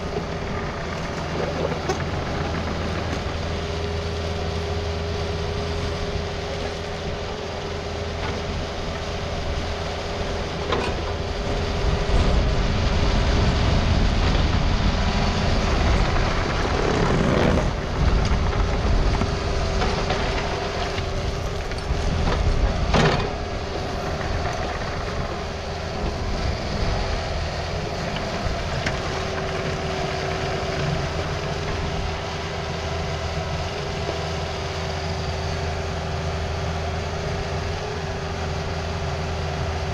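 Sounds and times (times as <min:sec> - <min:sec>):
excavator engine rumble and whine: 0:00.0 - 0:39.9.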